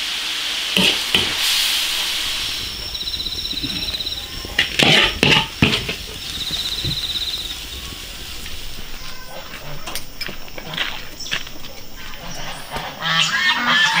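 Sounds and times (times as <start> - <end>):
hot wok hissing: 0.0 - 14.0.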